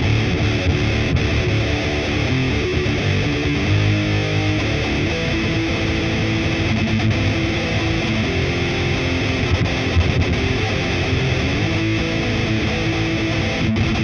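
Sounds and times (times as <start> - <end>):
distorted electric guitar riffing: 0.0 - 14.0.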